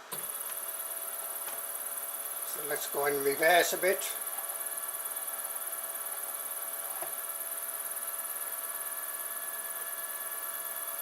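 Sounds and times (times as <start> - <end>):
stepper motor humming: 0.1 - 11.0.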